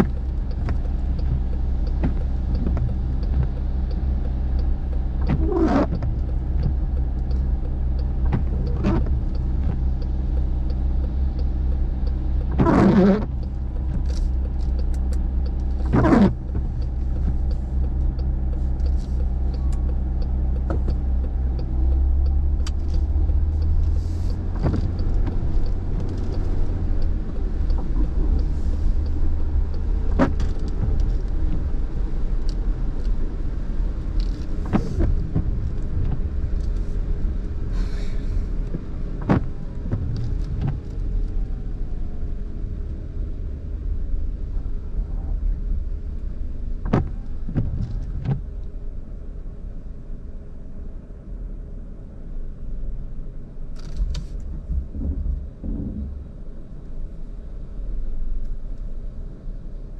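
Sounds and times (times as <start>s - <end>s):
windshield wipers swishing: 0.0s - 49.2s, 53.8s - 56.6s.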